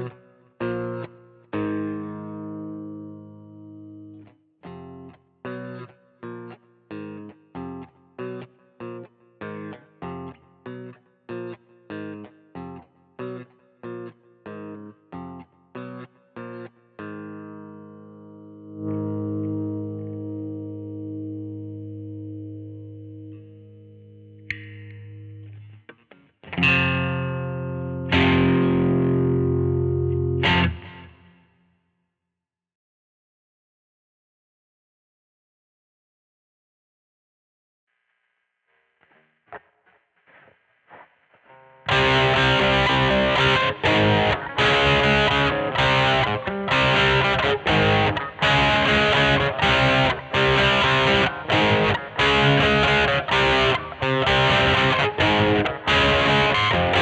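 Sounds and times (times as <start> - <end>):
distorted electric guitar chords: 0.0 - 31.4, 39.0 - 57.0.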